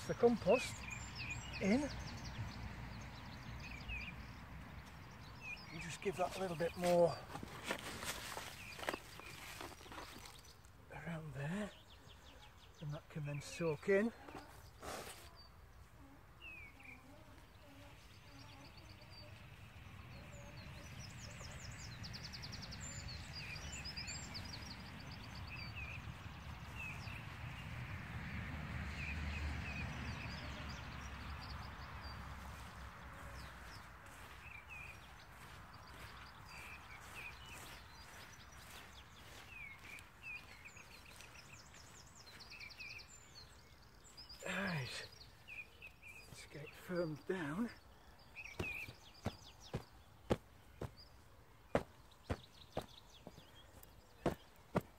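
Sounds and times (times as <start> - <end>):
birds chirping and trilling: 0.0 - 54.9.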